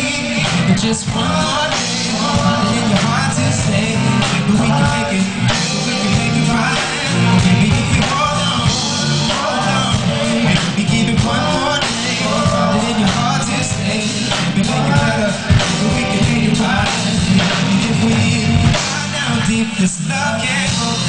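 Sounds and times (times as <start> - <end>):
live band playing: 0.0 - 21.0
man singing: 0.0 - 21.0.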